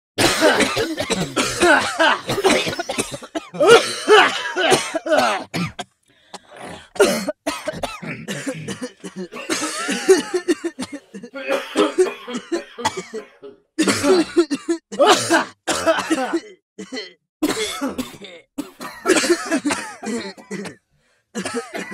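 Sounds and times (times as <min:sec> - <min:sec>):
people coughing: 0:00.2 - 0:20.8, 0:21.4 - 0:21.9.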